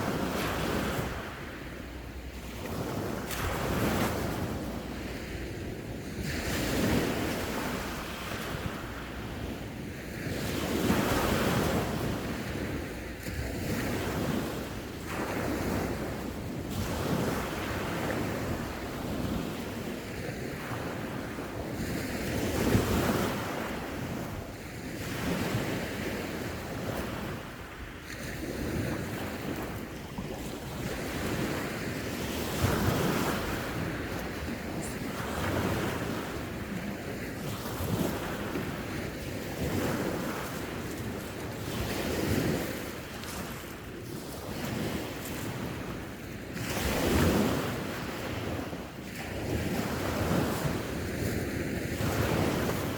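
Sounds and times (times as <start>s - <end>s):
sea waves breaking on shore: 0.0s - 52.9s
wind buffeting microphone: 0.0s - 52.9s.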